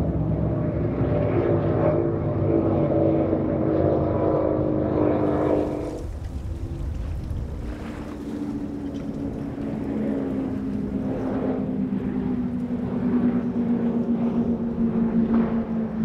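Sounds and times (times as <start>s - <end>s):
powerboat engines running: 0.0s - 16.0s.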